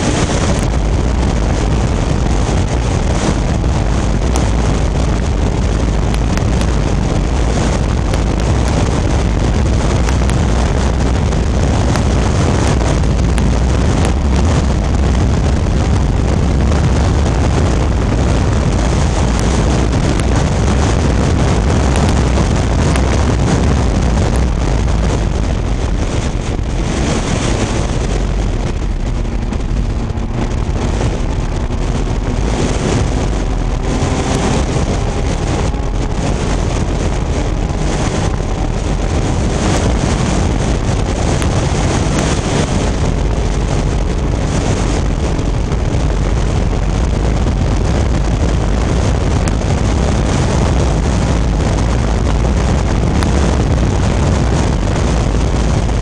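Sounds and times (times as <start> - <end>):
race car engine running hard: 0.0 - 56.0
wind buffeting on microphone: 0.0 - 56.0.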